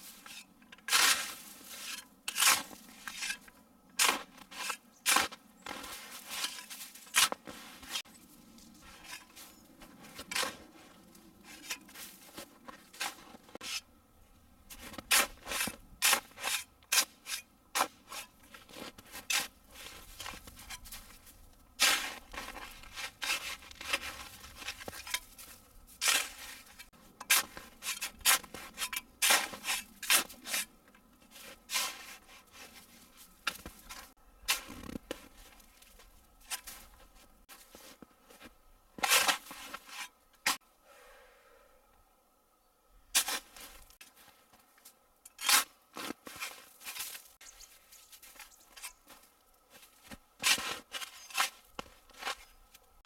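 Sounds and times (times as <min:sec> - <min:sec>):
tool scraping icy snow: 0:00.0 - 0:08.1, 0:08.8 - 0:13.9, 0:14.7 - 0:40.6, 0:43.2 - 0:44.4, 0:45.3 - 0:52.6.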